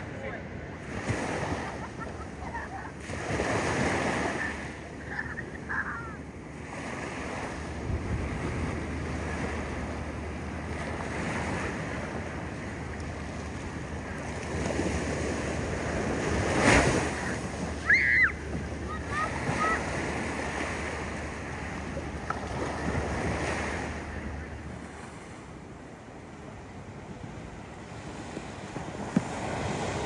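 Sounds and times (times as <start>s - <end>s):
small waves washing on sand: 0.7s - 30.0s.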